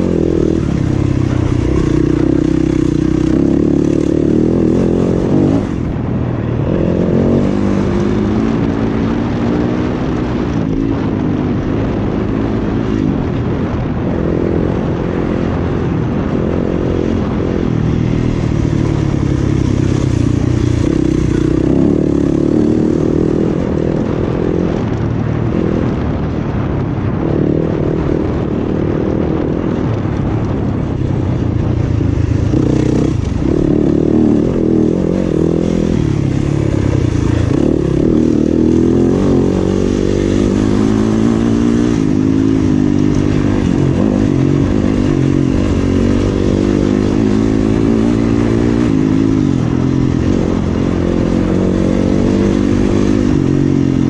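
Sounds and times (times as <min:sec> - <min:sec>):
dirt bike engine revving: 0:00.0 - 0:25.0, 0:32.2 - 0:54.0.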